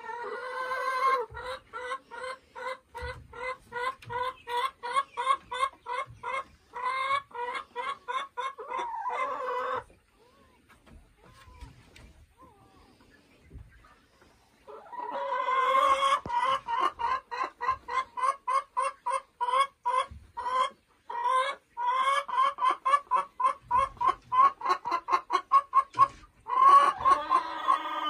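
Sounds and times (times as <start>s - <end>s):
hen clucking: 0.0s - 28.0s.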